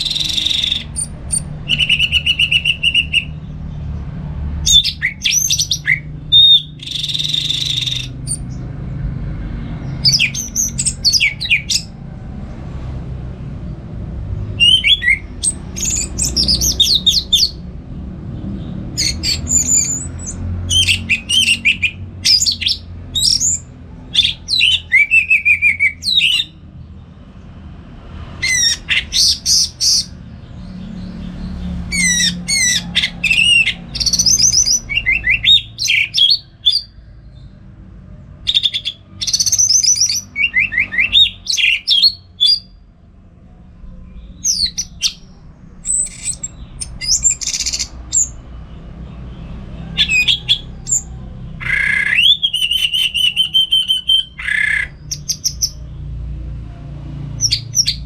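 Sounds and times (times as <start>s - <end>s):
bird singing varied song: 0.0s - 12.0s, 14.4s - 17.8s, 18.4s - 27.2s, 28.4s - 42.8s, 43.8s - 56.2s, 57.3s - 58.0s.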